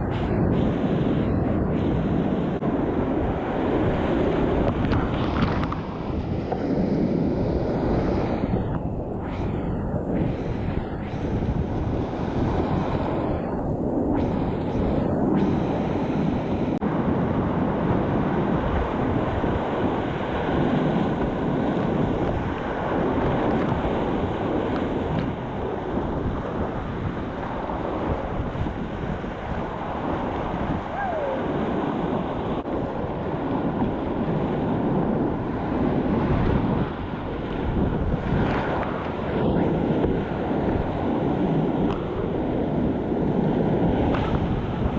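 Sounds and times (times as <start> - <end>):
wind buffeting the microphone: 0.0 - 44.9.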